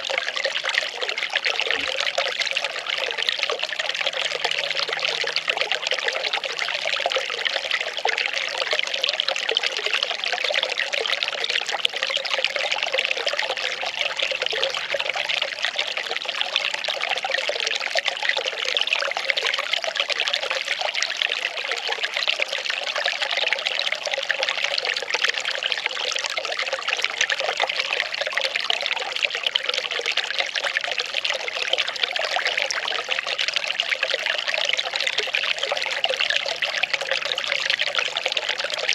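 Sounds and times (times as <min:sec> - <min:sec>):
water pouring and trickling: 0:00.0 - 0:38.9.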